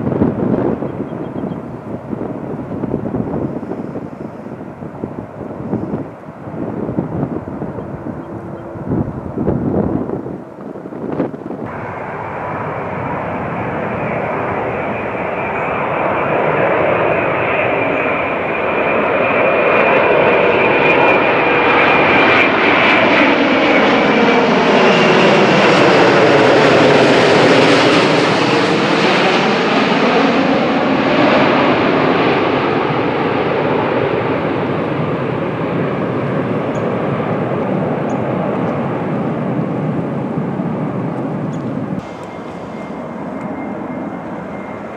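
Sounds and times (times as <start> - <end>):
high engine whine: 0.0 - 33.0, 36.6 - 44.9
jet airliner engines passing: 0.0 - 44.9.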